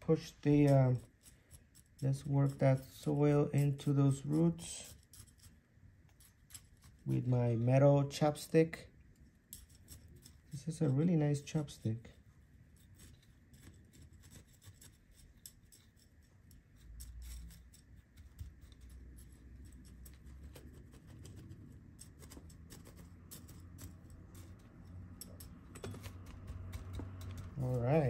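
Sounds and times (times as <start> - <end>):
chopstick scratching in soil: 0.1 - 7.4, 9.5 - 28.0.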